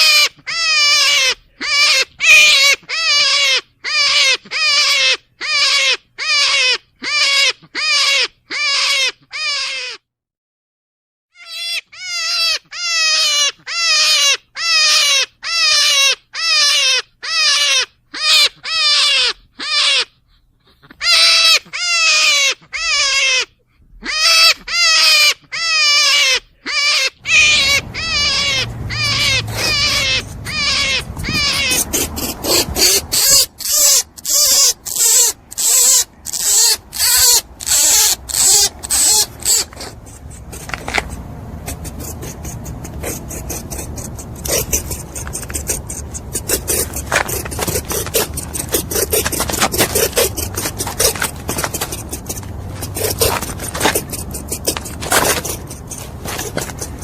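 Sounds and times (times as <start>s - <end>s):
animal squealing calls: 0.0s - 10.0s, 11.4s - 57.0s.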